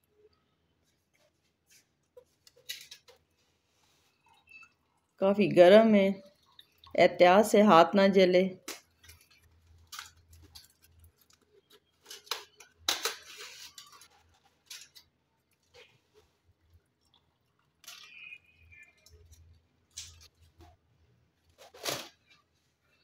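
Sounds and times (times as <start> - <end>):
aluminium foil crinkling: 0.9 - 5.1, 8.6 - 23.0.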